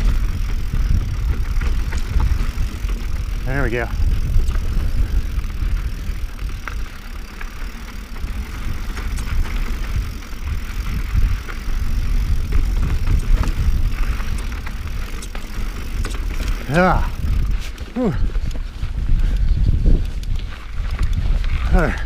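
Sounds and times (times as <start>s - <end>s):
wind and rolling rumble: 0.0s - 22.0s.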